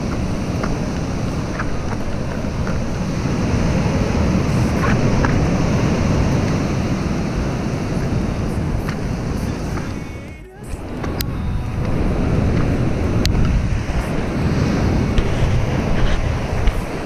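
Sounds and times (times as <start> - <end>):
surf breaking on rocky shore: 0.0 - 17.0
wind rumbling on microphone: 0.0 - 17.0.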